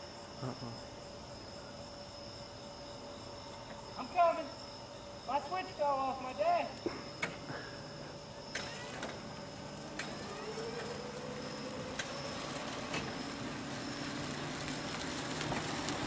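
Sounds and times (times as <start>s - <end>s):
electric car motor whining: 0.0s - 16.0s.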